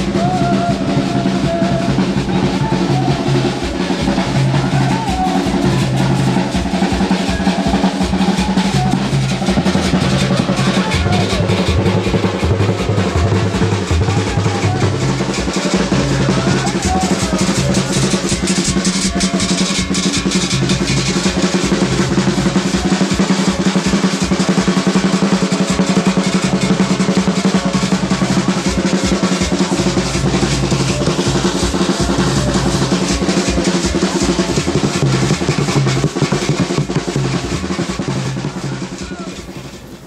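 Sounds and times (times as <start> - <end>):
hand drum: 0.0 - 40.0
snare and bass drums: 0.0 - 40.0.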